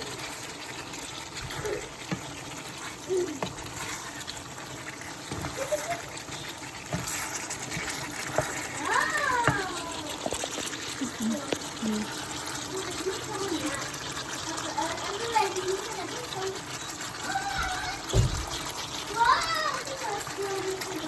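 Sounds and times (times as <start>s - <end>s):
water running and splashing: 0.0s - 21.0s.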